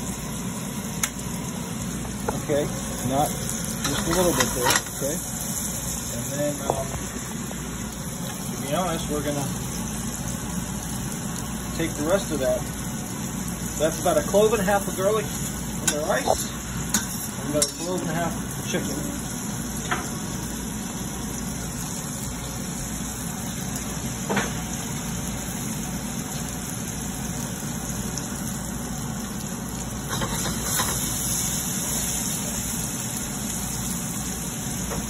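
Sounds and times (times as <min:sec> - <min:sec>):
chicken sizzling in oil: 0:00.0 - 0:35.0
gas burner rumble: 0:00.0 - 0:35.0.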